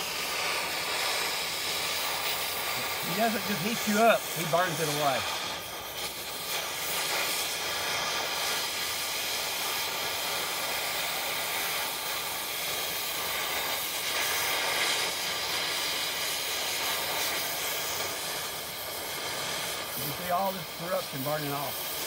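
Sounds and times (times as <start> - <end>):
cutting torch flame hissing: 0.0 - 22.0.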